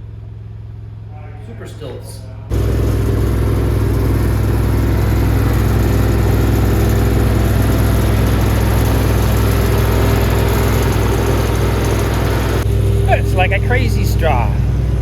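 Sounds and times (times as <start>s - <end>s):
machine humming with hiss: 2.5s - 15.0s.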